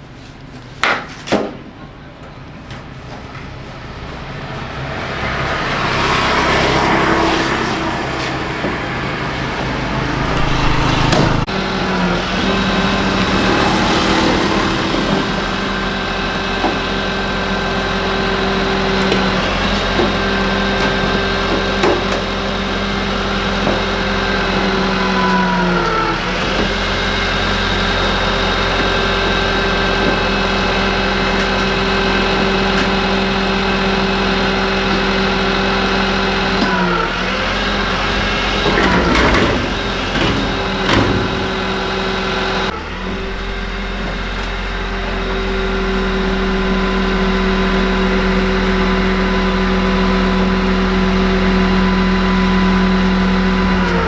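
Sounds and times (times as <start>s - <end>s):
engine humming steadily: 1.8s - 54.0s.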